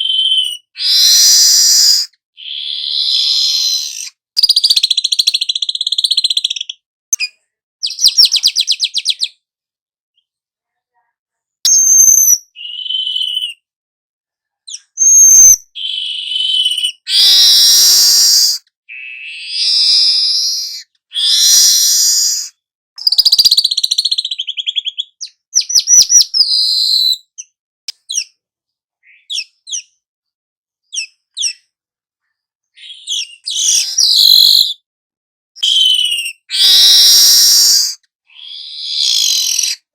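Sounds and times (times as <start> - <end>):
bird phrases with trills and whistles: 0.0 - 9.4, 11.6 - 13.7, 14.7 - 28.4, 29.0 - 30.0, 30.8 - 31.7, 32.7 - 34.8, 35.6 - 39.9.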